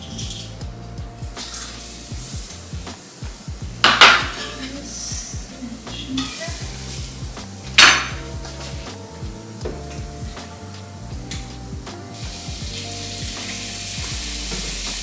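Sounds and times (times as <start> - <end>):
quiet background music: 0.0 - 15.0
food sizzling in pan: 1.3 - 15.0.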